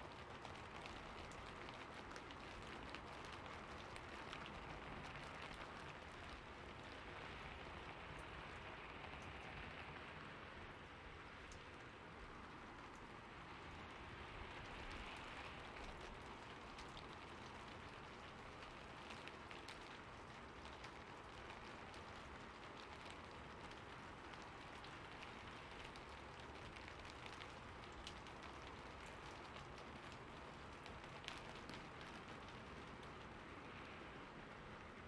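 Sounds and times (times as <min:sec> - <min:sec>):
rain drops ticking: 0:00.0 - 0:35.0
steady rain hiss: 0:00.0 - 0:35.0.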